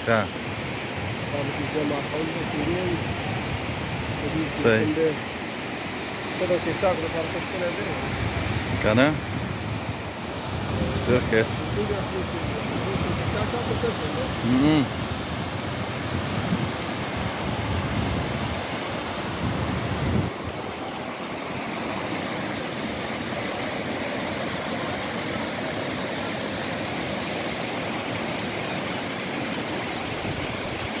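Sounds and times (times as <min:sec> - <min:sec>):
water rushing over weir: 0:00.0 - 0:31.0.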